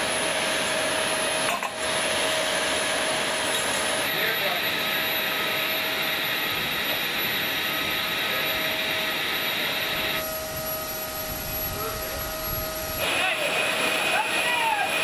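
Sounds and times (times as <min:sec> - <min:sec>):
aircraft turbine whine and roar: 0:00.0 - 0:15.0.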